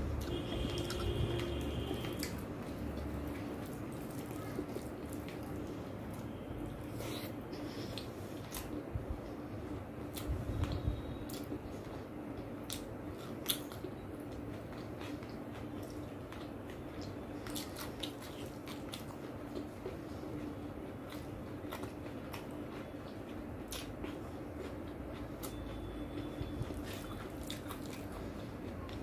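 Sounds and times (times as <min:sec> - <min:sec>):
faint steady hum: 0:00.0 - 0:29.0
food mixed by hand squishing: 0:00.0 - 0:29.0.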